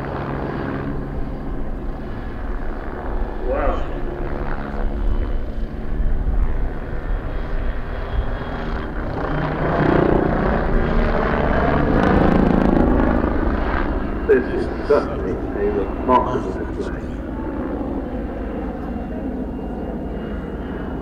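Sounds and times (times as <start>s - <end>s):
helicopter drone: 0.0s - 21.0s.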